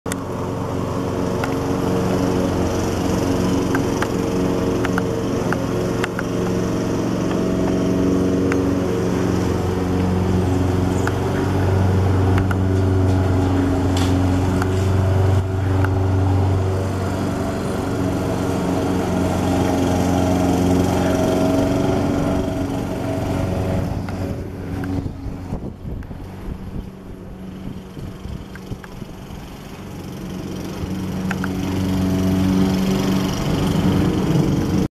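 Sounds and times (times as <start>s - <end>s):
jet engines droning overhead: 0.1s - 34.9s.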